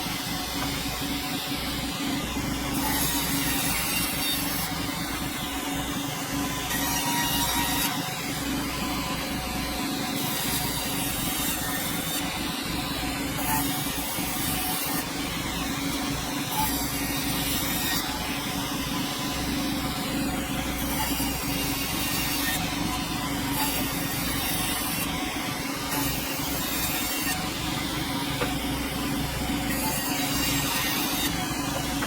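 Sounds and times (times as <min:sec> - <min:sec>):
sawmill engine and saw: 0:00.0 - 0:32.0.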